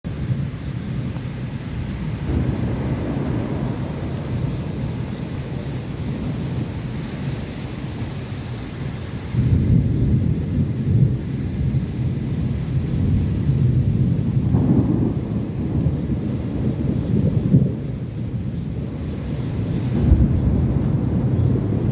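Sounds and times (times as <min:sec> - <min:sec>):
thunder rumbling: 0:00.0 - 0:21.9
rain hissing: 0:00.1 - 0:21.9.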